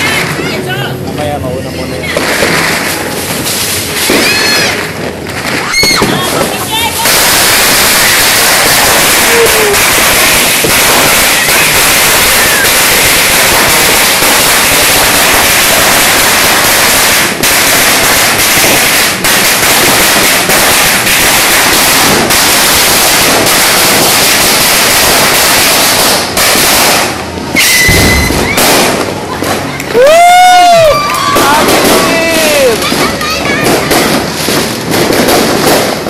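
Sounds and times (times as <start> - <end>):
firecracker string crackling: 0.0 - 36.0.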